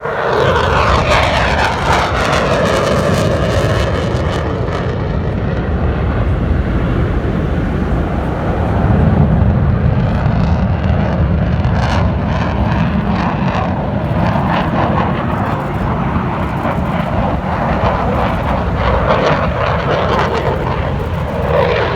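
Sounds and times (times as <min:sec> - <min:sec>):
airplane engine whine: 0:00.0 - 0:21.9
heavy airplane rumble: 0:00.0 - 0:21.9.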